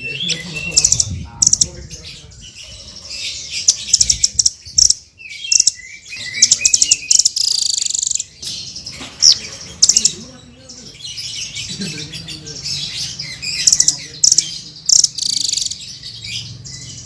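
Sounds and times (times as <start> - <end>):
parrot chirping and trilling: 0.0 - 17.0.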